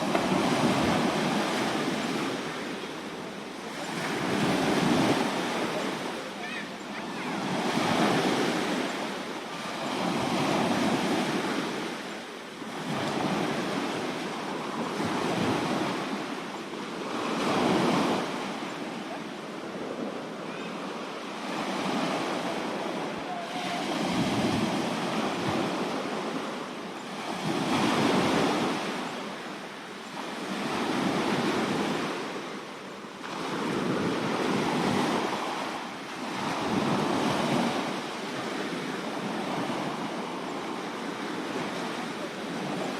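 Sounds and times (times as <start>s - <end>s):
sea waves breaking on shore: 0.0s - 42.9s.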